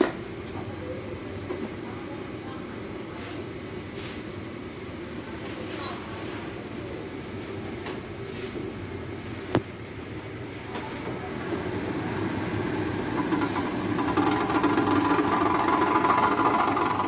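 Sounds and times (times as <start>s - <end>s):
mechanical hum and whir: 0.0s - 17.0s
whine: 0.0s - 17.0s.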